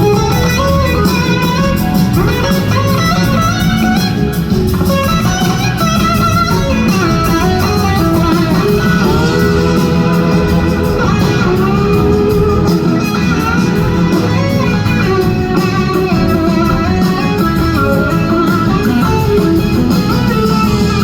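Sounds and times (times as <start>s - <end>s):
bass drums and keys: 0.0s - 21.0s
electric guitar solo: 0.0s - 21.0s.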